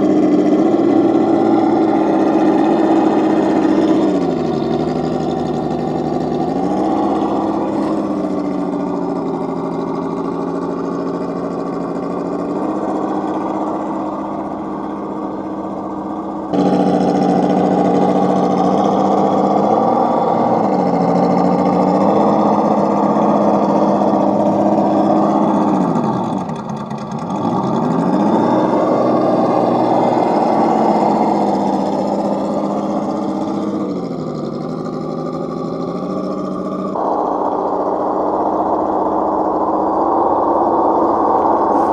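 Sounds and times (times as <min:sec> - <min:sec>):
electric motor and gears whining: 0:00.0 - 0:41.9.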